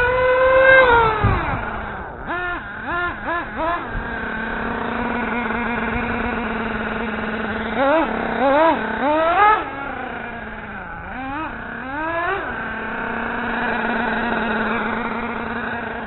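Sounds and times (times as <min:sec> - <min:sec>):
steady low hum: 0:00.0 - 0:16.0
toy car motor revving: 0:00.0 - 0:16.0.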